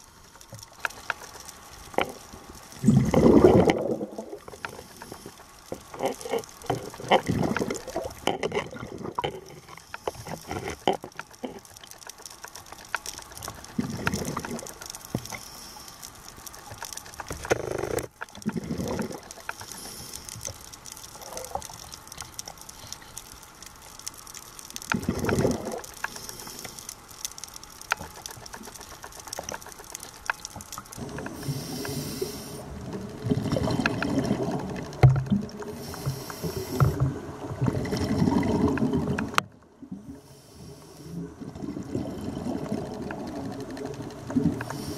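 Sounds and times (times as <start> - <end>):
fine crackle: 0.0 - 44.9
underwater bubbling: 0.0 - 44.9.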